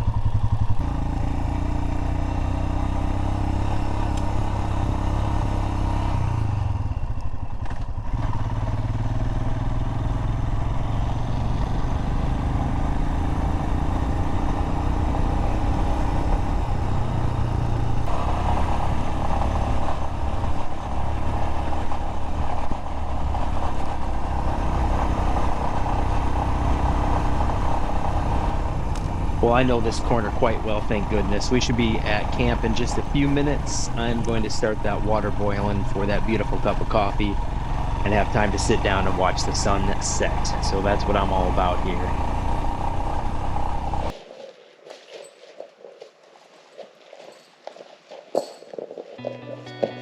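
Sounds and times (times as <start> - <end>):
motorcycle engine running: 0.0 - 44.1, 48.7 - 50.0.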